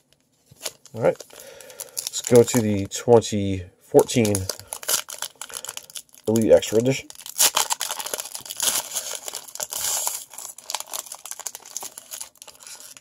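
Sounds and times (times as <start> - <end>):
foil wrapper crinkling and tearing: 0.0 - 2.9, 4.0 - 13.0.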